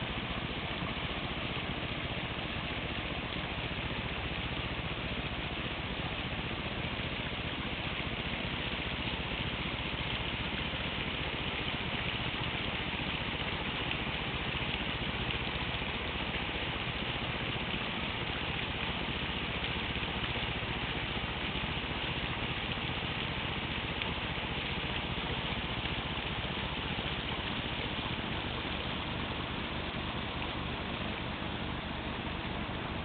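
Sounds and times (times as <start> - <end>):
running water: 0.0 - 33.0.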